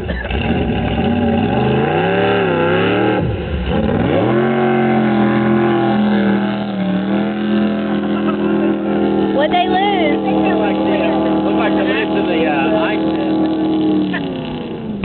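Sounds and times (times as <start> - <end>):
boat engine revving: 0.0 - 15.0.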